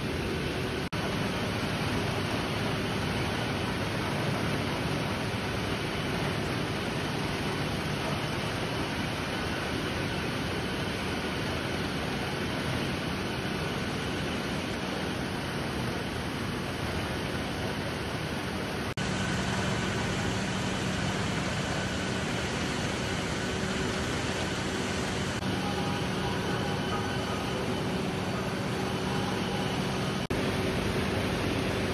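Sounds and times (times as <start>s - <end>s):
rubber milling machinery running: 0.0s - 31.9s
steady low hum: 0.0s - 31.9s.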